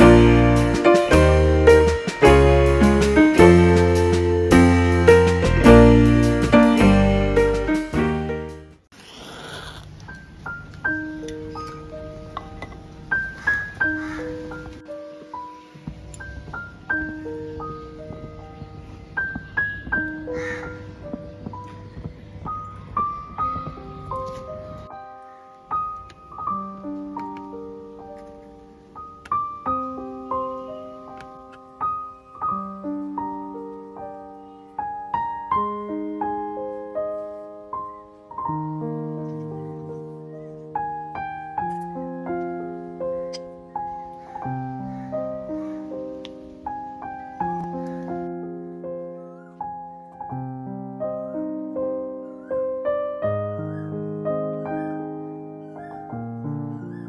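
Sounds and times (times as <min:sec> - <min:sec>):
gentle piano melody: 0:00.0 - 0:08.9, 0:10.0 - 0:57.0.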